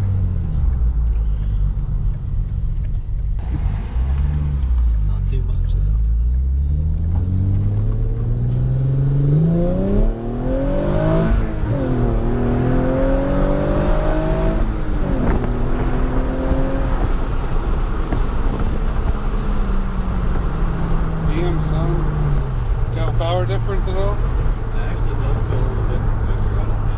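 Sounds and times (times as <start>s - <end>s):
car engine accelerating hard: 0.0s - 26.9s.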